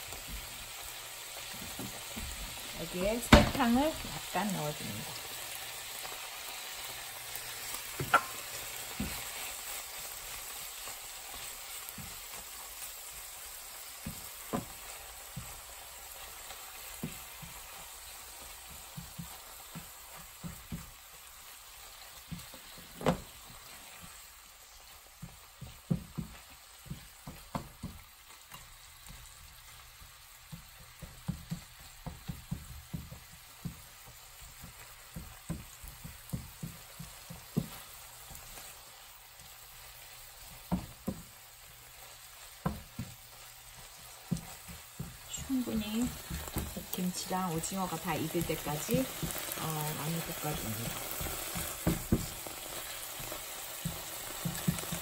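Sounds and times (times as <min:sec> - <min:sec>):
food sizzling in frying pan: 0:00.0 - 0:55.0
spatula knocking and scraping pan: 0:00.2 - 0:55.0.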